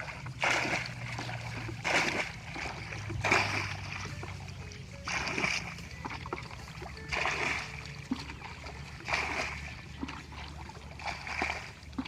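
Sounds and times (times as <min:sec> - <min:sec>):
water splashing in strokes: 0:00.0 - 0:12.0.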